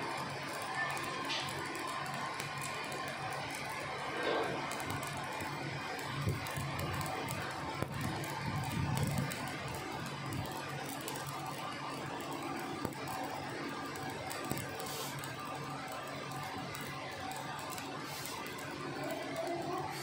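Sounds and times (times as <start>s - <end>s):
welding arc crackling: 0.0s - 20.0s.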